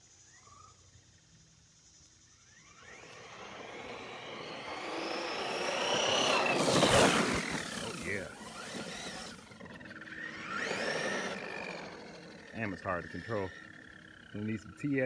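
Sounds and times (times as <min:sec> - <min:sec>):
tyre roar on asphalt: 0:02.4 - 0:14.8
electric motor whine: 0:02.4 - 0:15.0.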